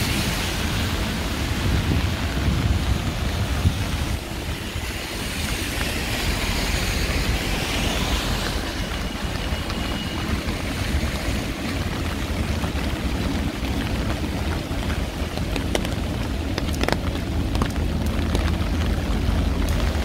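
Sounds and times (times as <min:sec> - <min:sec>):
heavy rain on street: 0:00.0 - 0:20.0
low rumble: 0:00.0 - 0:20.0.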